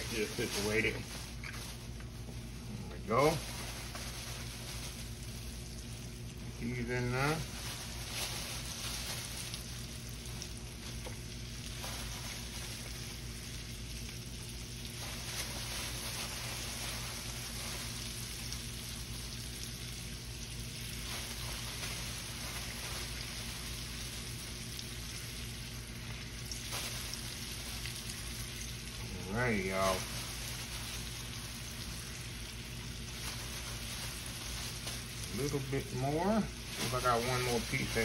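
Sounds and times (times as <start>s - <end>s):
meat sizzling in hot oil: 0.0s - 38.0s.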